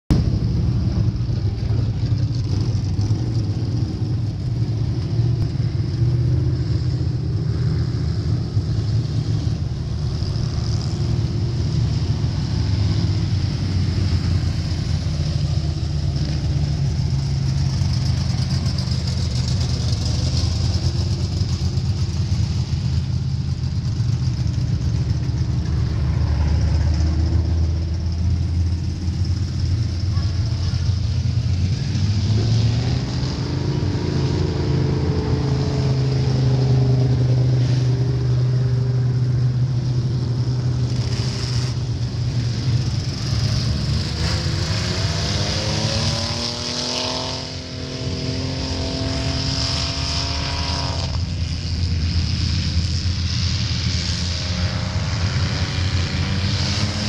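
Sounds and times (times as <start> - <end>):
race car engines running: 0.1 - 57.0.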